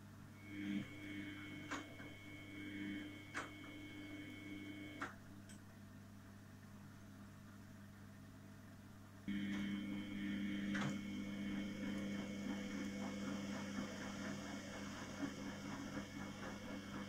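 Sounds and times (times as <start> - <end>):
low steady hum: 0.0 - 17.0
washing machine motor whine: 0.0 - 17.0.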